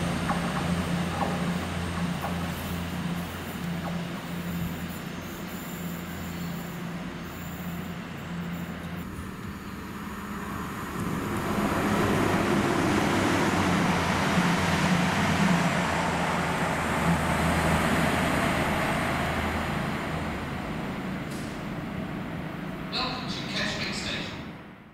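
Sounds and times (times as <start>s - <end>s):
train engine drone: 0.0s - 24.9s
wheels rumbling on track: 0.0s - 24.9s.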